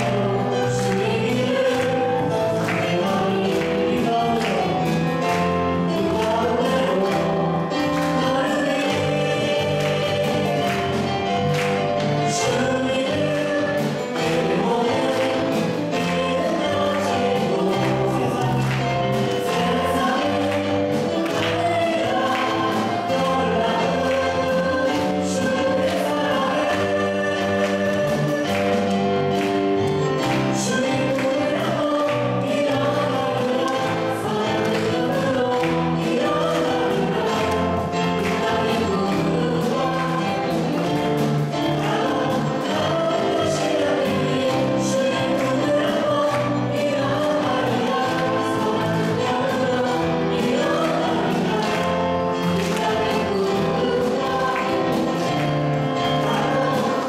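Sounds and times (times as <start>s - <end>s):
live band playing: 0.0s - 57.0s
man and women singing worship song: 0.0s - 57.0s.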